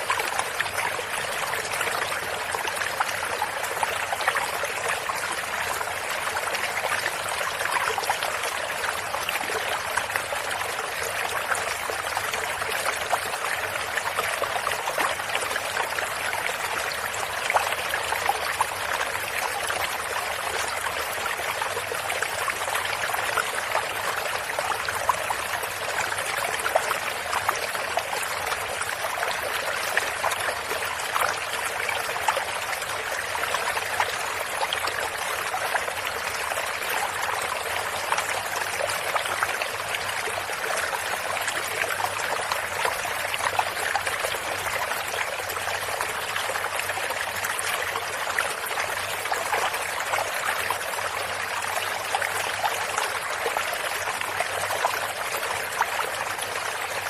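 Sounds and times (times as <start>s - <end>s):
stream water over stones: 0.0s - 57.0s.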